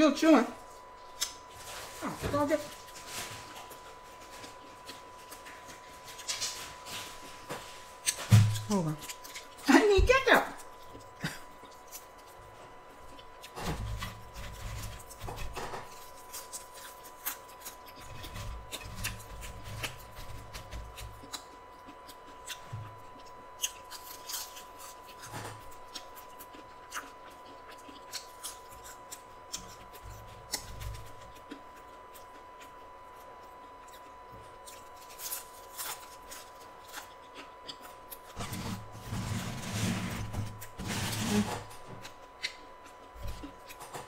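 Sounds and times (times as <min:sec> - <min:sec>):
person chewing fries: 0:00.6 - 0:09.7, 0:10.5 - 0:44.0.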